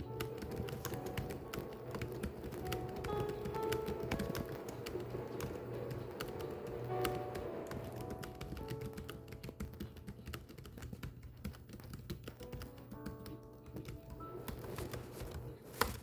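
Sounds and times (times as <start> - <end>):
keyboard typing clicks: 0.0 - 16.0
soft background music: 0.0 - 16.0.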